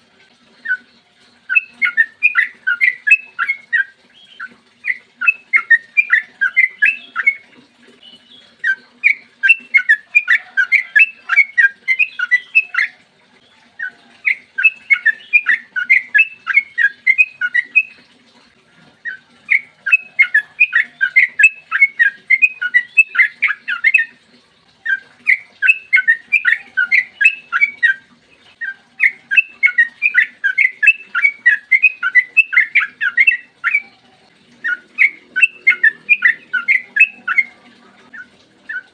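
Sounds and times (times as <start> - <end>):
bird singing rapid chirps: 0.6 - 7.4, 8.0 - 13.0, 13.8 - 18.0, 19.0 - 24.2, 24.8 - 28.0, 28.6 - 33.9, 34.6 - 38.9.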